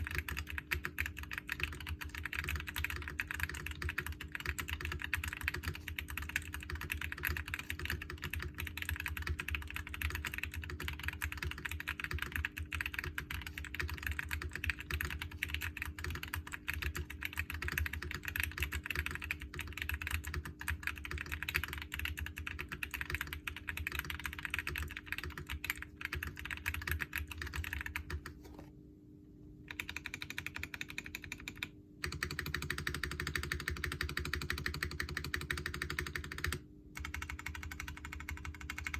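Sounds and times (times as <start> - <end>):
mechanical keyboard typing: 0.0 - 28.7, 29.7 - 38.9.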